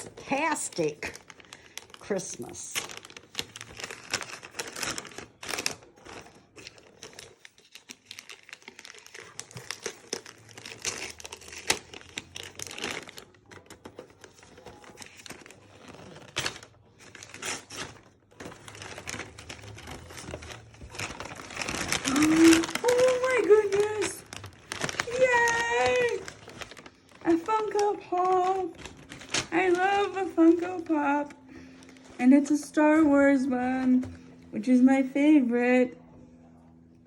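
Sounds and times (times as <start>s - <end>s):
wrapping paper crinkling and tearing: 0.0s - 34.1s.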